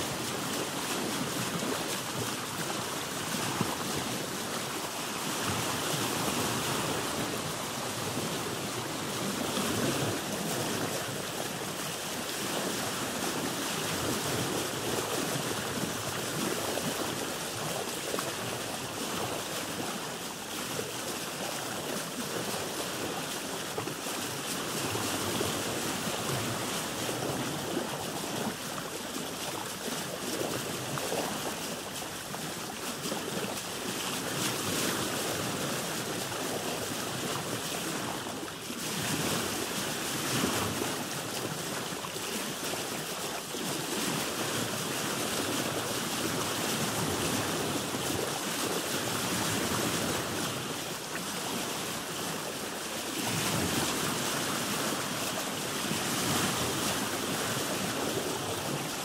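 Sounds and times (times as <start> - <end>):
sea waves washing around boat: 0.0 - 59.0.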